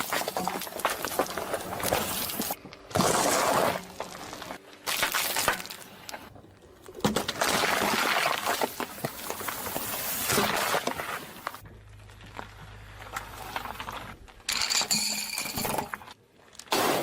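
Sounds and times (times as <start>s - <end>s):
objects crushed under car tyre: 0.0s - 17.0s.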